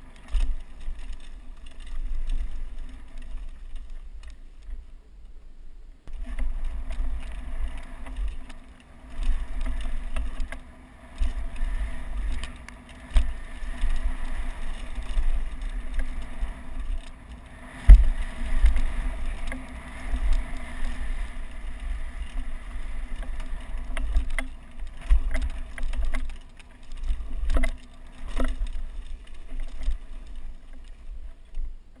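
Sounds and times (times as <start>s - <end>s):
bike rattling over bumps: 0.0s - 5.3s, 6.1s - 32.0s
wind rumble on microphone: 0.0s - 32.0s.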